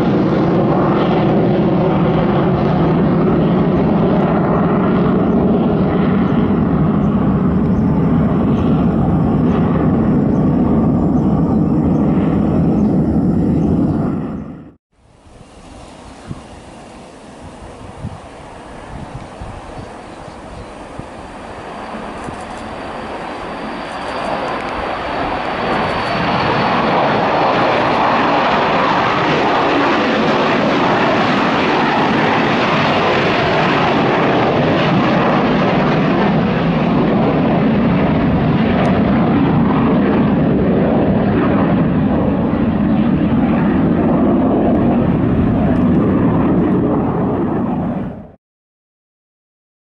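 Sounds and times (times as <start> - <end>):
jet engine roar: 0.0 - 48.4.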